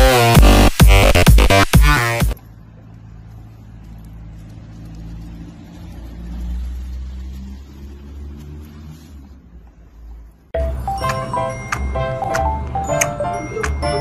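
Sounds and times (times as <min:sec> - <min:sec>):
vehicle engine rumble: 0:02.3 - 0:14.0.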